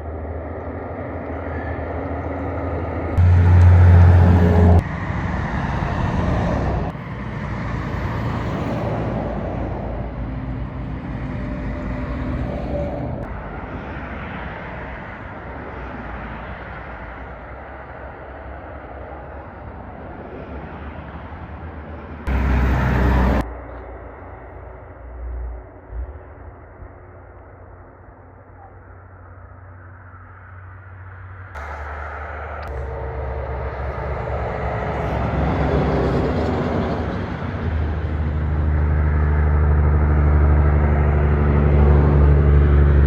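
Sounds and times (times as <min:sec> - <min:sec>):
low engine drone: 0:00.0 - 0:43.0
traffic passing: 0:00.0 - 0:43.0
tyre and road noise: 0:00.0 - 0:43.0.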